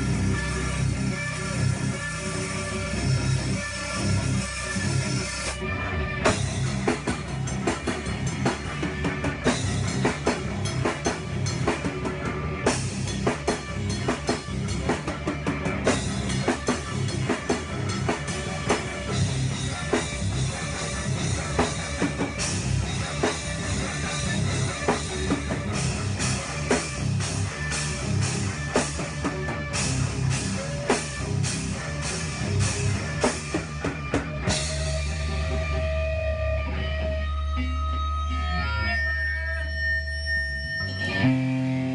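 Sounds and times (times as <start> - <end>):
drum kit: 0.0 - 37.4
rock band playing: 0.0 - 41.9.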